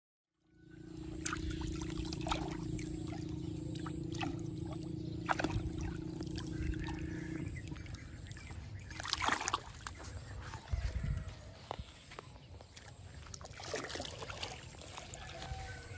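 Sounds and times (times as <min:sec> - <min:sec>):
steady low hum: 0:00.4 - 0:15.9
otters splashing in water: 0:01.0 - 0:11.0, 0:12.7 - 0:15.9.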